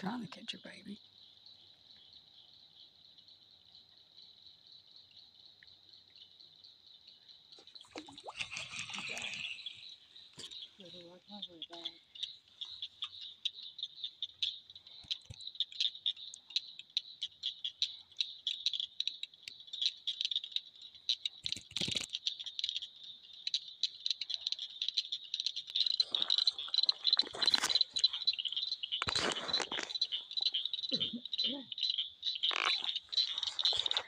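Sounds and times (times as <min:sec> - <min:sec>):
frogs calling: 0:00.0 - 0:34.0.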